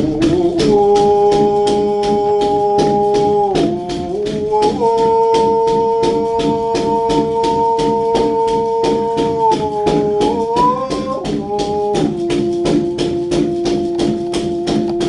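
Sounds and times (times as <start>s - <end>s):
frame drum beating: 0.0s - 15.0s
man droning a long note: 0.0s - 15.0s.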